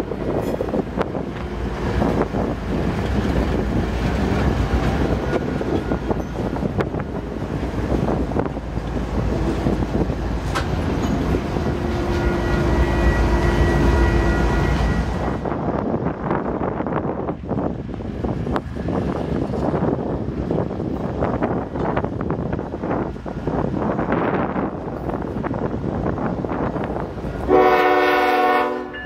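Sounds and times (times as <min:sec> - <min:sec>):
locomotive engine rumble: 0:00.0 - 0:28.9.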